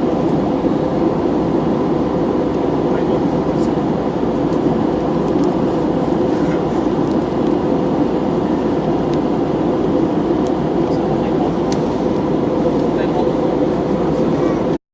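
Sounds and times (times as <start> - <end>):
engine and airflow rush: 0.0 - 14.8.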